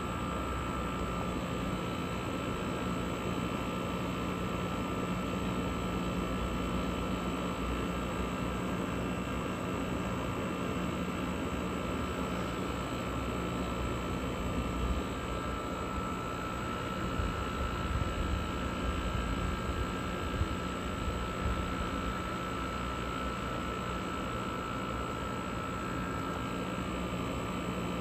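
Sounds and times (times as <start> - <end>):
air conditioner fan blowing: 0.0 - 28.0
compressor hum: 0.0 - 28.0.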